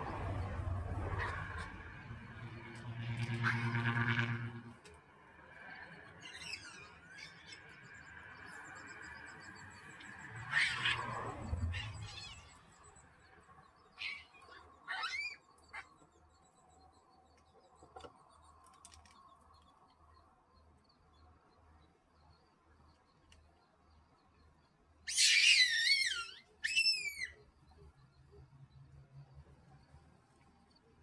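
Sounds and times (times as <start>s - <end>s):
faint outdoor ambience: 0.0s - 31.0s
birds chirping: 5.7s - 31.0s.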